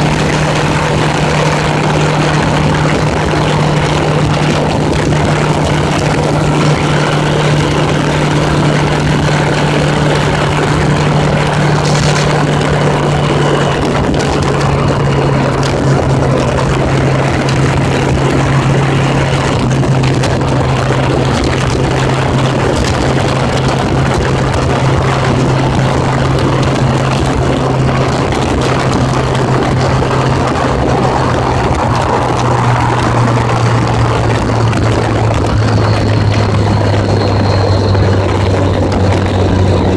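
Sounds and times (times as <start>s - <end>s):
motorcycle engine cruising: 0.0s - 39.9s
road noise: 0.0s - 39.9s
wind rush: 0.0s - 39.9s.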